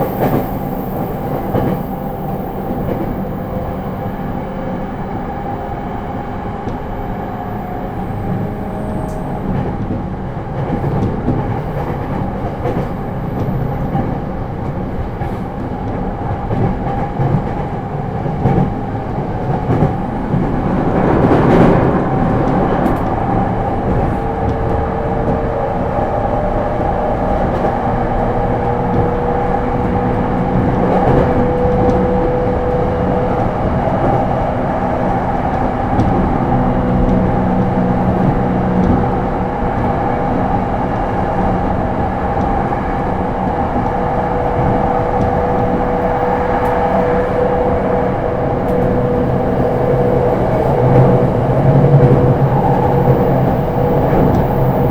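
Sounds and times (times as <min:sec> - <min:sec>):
steady train hum: 0:00.0 - 0:54.9
train wheels rolling on rail: 0:00.0 - 0:54.9.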